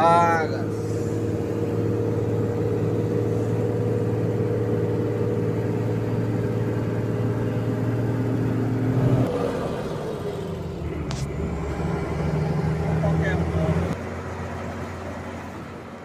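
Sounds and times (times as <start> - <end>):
road noise: 0.0 - 16.0
vehicle engine droning: 0.0 - 16.0.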